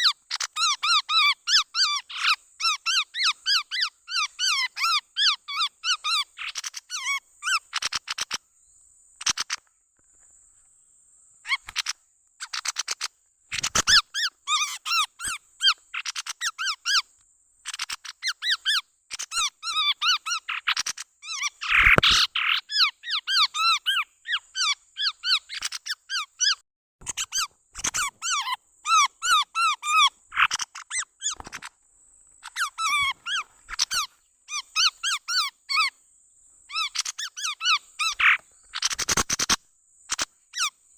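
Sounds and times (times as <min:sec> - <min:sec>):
bird chirping calls: 0:00.0 - 0:09.7, 0:11.4 - 0:36.0, 0:36.7 - 0:40.9.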